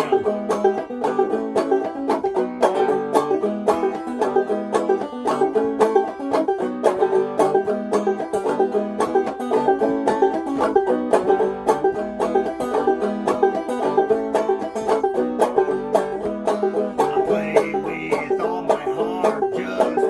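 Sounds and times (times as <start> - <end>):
banjo playing: 0.0 - 20.0.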